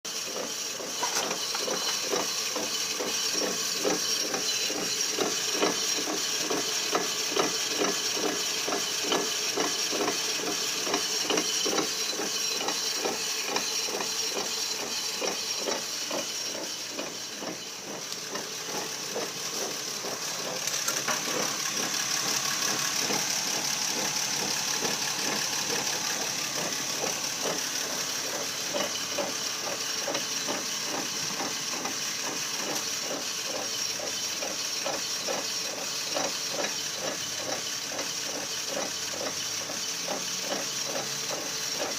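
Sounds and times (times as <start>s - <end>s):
rhythmic grinding from drive axle: 0.0s - 41.9s.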